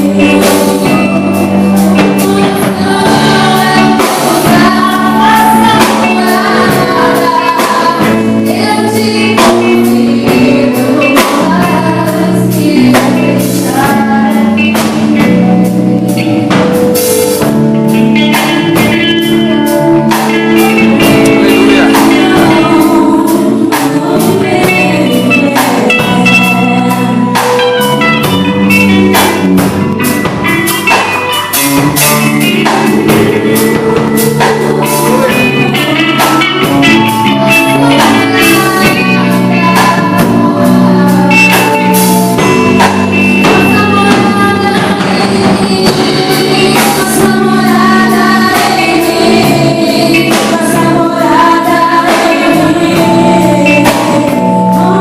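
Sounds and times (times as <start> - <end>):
women singing gospel: 0.0 - 29.7, 31.9 - 55.0
guitar accompaniment: 0.0 - 55.0.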